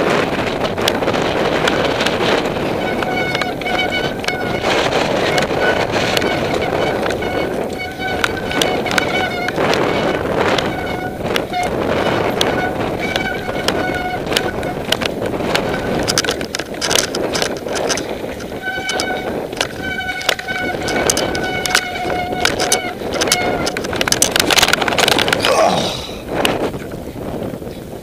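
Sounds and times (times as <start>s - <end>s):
bike rattling and knocking on stones: 0.0s - 25.5s
wind rushing over microphone: 0.0s - 28.0s.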